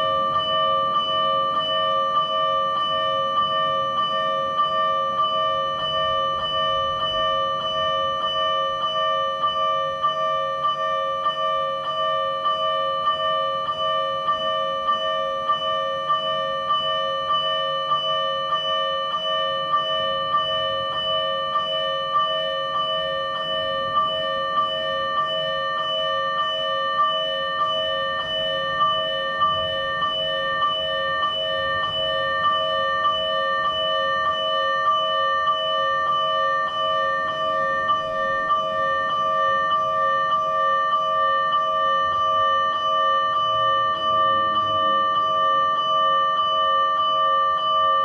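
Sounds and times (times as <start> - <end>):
electronic fire alarm bell striking: 0.0 - 48.0.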